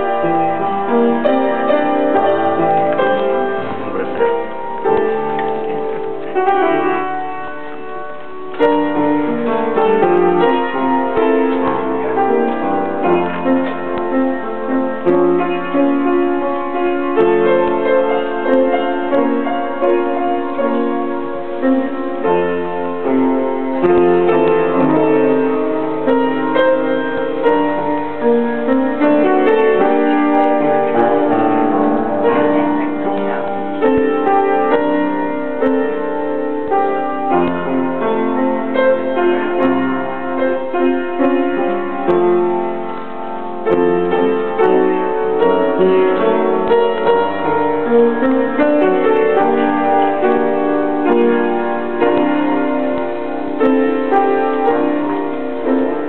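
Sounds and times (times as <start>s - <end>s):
upright piano chords: 0.0s - 56.0s.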